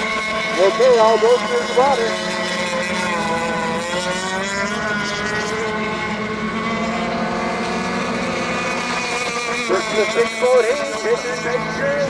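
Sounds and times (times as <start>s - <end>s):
model boat engines whining: 0.0s - 12.0s.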